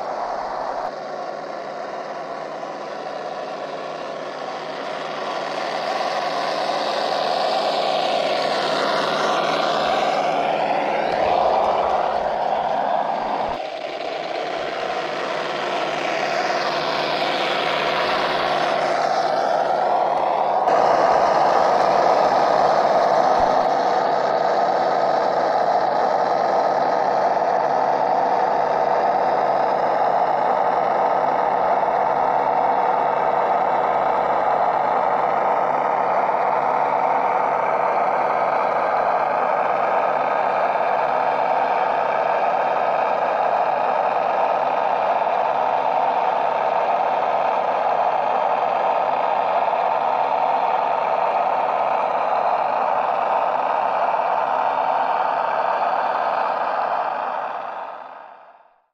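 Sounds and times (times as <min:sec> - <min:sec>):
high whine: 0:00.0 - 0:58.9
recorded truck engine sound: 0:00.0 - 0:58.9.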